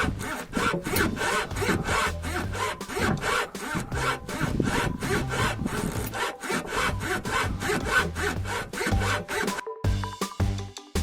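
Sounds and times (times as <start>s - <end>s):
rubber bushing creaking: 0.0s - 10.0s.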